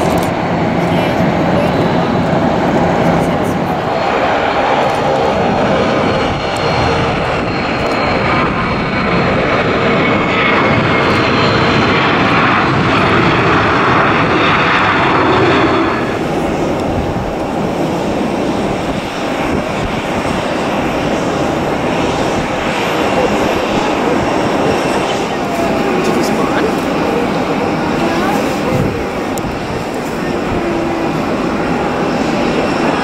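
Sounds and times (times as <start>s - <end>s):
high engine whine: 0.0s - 33.0s
jet engines at takeoff thrust: 0.0s - 33.0s.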